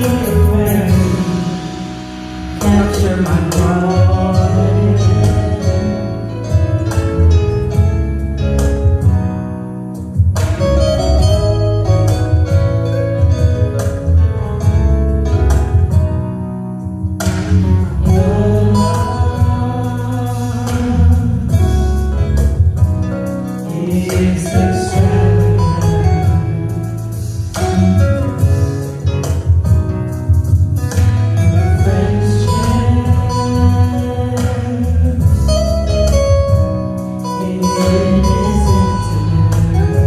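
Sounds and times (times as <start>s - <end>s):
worship music with guitar and bass: 0.0s - 40.0s.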